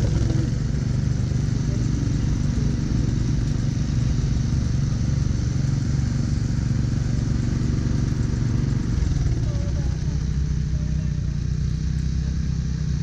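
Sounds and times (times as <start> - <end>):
snowblower engine running: 0.0 - 13.0.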